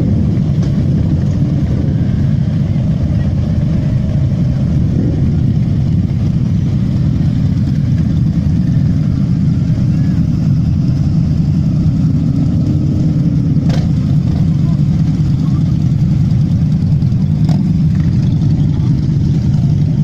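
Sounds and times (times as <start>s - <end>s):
motorcycle engines idling: 0.0s - 20.0s.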